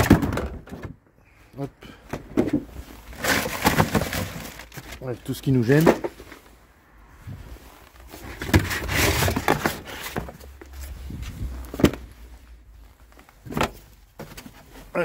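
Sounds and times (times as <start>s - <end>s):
rustling: 2.4s - 15.0s.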